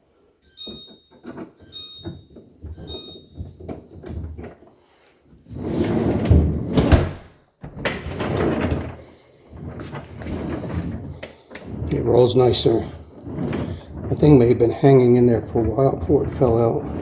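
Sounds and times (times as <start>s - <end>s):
freezer drawer rolling on rails: 0.4s - 4.7s, 5.4s - 17.0s.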